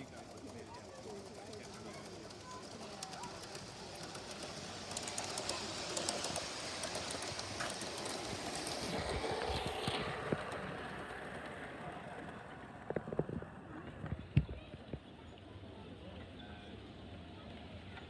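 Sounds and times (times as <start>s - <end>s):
model train clattering on track: 0.0s - 15.1s.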